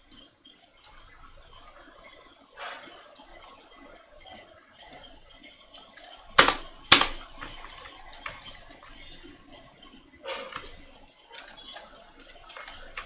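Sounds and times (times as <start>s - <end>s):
computer mouse clicking: 0.0s - 2.2s, 2.8s - 13.0s.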